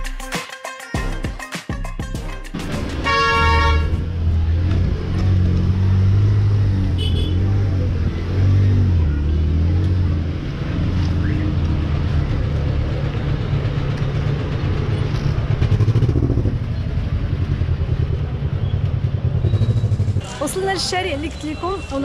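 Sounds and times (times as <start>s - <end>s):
vehicle engine running: 3.9s - 22.0s.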